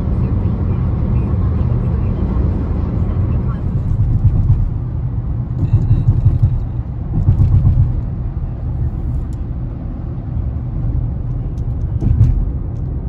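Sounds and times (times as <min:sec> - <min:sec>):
car interior road noise: 0:00.0 - 0:13.0.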